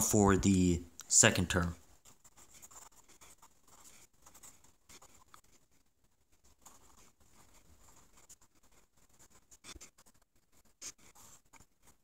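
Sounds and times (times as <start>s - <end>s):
pen scratching on paper: 2.0s - 12.0s.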